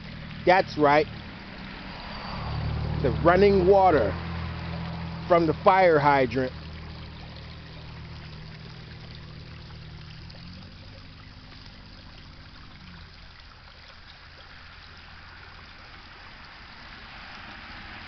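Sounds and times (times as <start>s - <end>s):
water rushing from fire hydrant: 0.0s - 18.0s.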